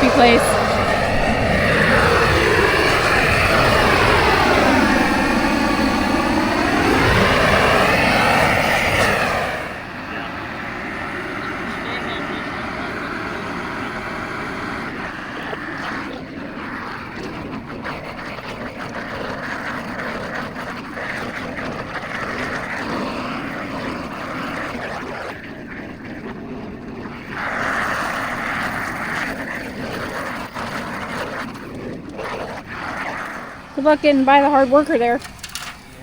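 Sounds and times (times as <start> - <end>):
motor running steadily: 0.0 - 36.0.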